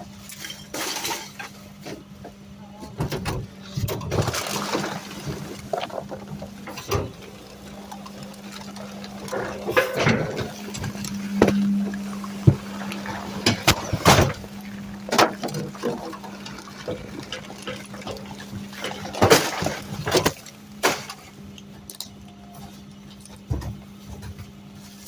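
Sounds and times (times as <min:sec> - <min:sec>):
garbage truck humming: 0:00.0 - 0:25.0.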